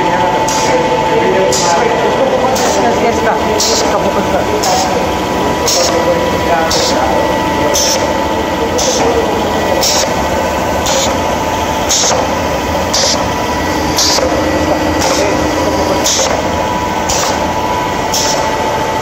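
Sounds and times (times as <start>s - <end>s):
air engine exhaust hiss: 0.0s - 19.0s
steady hum: 0.0s - 19.0s.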